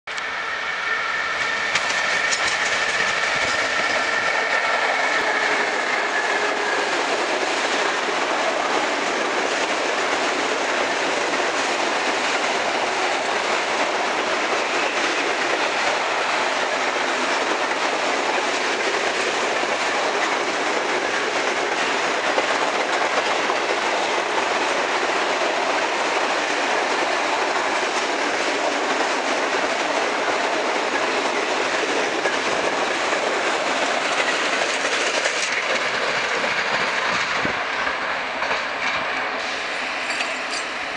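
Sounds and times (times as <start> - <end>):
train wheels rumbling on rails: 0.1 - 40.9.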